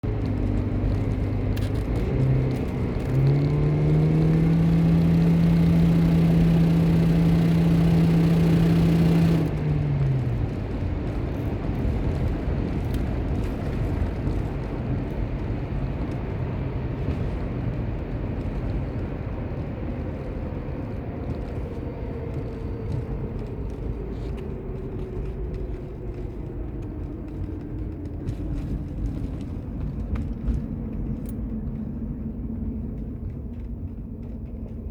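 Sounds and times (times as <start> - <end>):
car engine accelerating hard: 0.0 - 34.9
steady road noise: 0.0 - 34.9.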